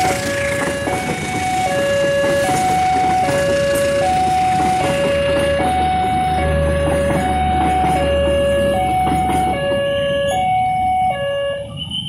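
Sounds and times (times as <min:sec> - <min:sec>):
train carriages rumbling past: 0:00.0 - 0:12.0
two-tone electronic alarm: 0:00.0 - 0:12.0.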